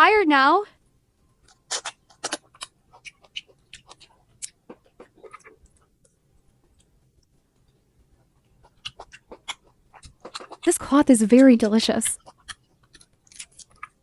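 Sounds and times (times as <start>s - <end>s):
chewing crunchy fruit: 1.4s - 11.4s, 12.2s - 14.0s.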